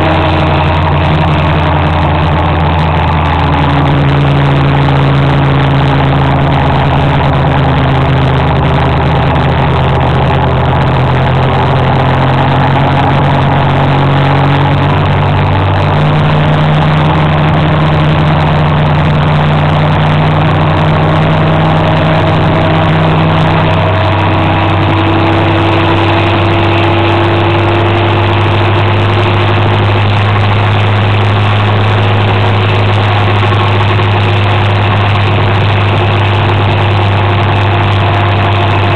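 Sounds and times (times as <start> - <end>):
motor scooter engine running: 0.0 - 38.9
wind and road noise: 0.0 - 38.9.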